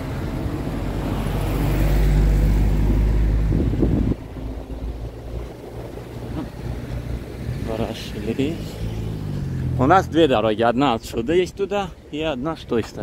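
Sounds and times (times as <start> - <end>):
traffic hum: 0.0 - 13.0
vehicle engine rumble: 0.0 - 13.0.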